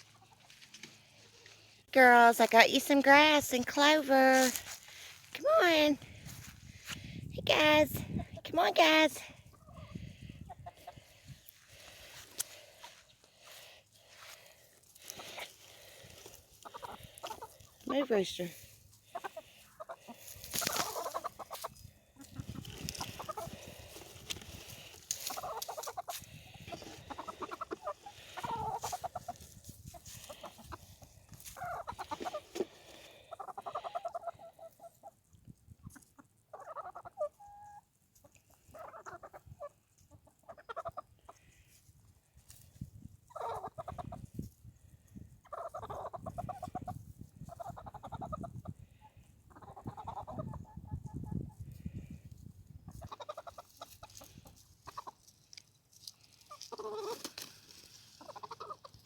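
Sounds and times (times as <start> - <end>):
chickens clucking: 0.0 - 1.8, 7.8 - 59.0.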